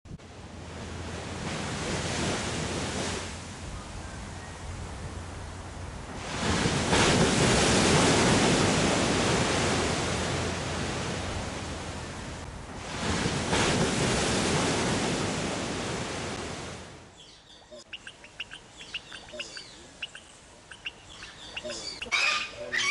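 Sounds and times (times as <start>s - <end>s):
ocean waves breaking: 0.2s - 22.9s.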